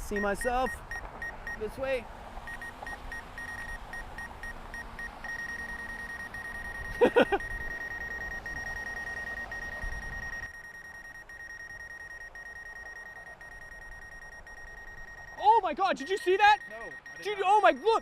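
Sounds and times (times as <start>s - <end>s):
high-pitched electronic beeping: 0.0s - 1.8s, 2.4s - 18.0s.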